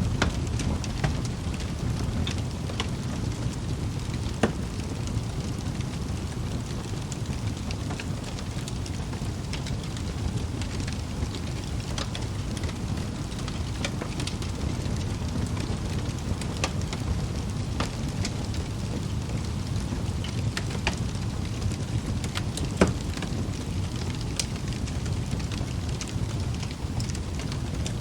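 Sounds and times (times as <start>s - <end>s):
burning logs crackling and popping: 0.0s - 28.0s
low rumble of flames: 0.0s - 28.0s.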